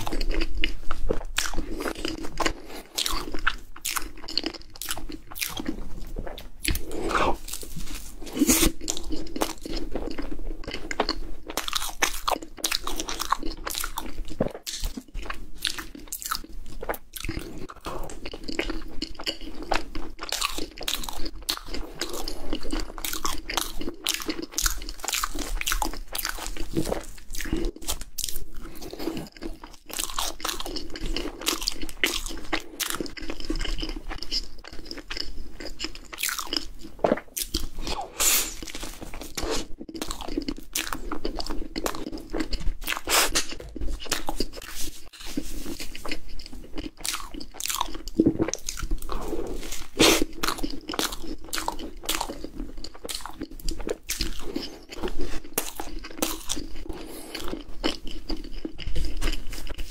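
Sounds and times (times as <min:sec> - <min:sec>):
crunching and chewing pastry: 0:00.0 - 0:59.9.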